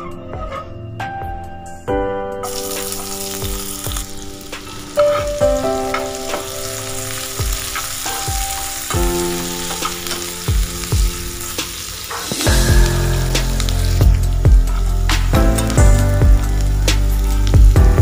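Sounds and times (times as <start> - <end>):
onion sizzling in oil: 2.4 - 18.0.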